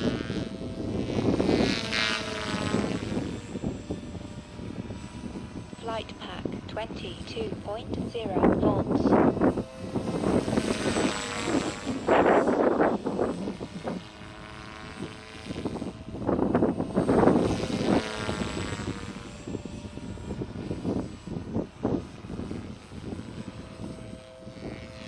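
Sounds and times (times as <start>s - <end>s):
helicopter motor and rotor hum: 0.0s - 25.0s.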